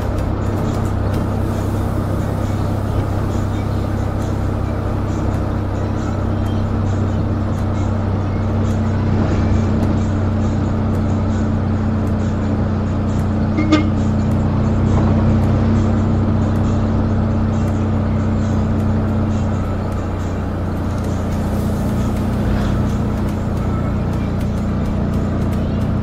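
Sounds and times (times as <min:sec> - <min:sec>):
minibus engine and road noise: 0:00.0 - 0:26.0.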